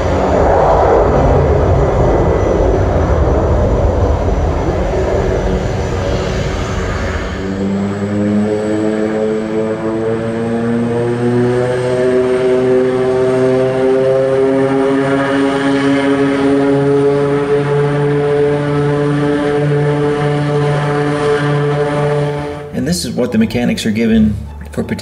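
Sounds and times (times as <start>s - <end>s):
propeller drone: 0.0s - 25.0s
turboprop engine rushing: 0.0s - 25.0s.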